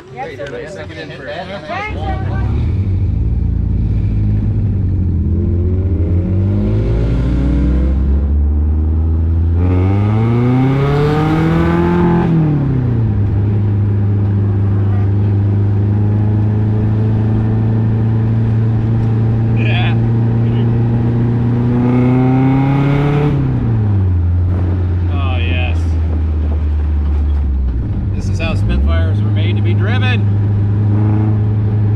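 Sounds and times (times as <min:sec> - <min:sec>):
car engine accelerating: 0:01.7 - 0:31.9.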